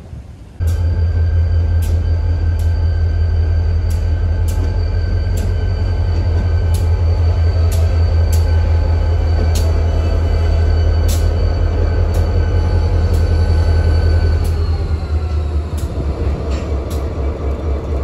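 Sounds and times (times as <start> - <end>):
diesel locomotive engine drone: 0.0 - 18.0
thin high whine: 0.6 - 15.3.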